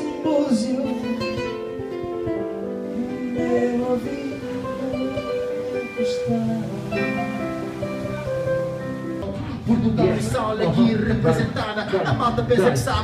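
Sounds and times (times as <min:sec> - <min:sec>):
acoustic guitar strumming: 0:00.0 - 0:11.8
keyboard playing: 0:00.0 - 0:12.9.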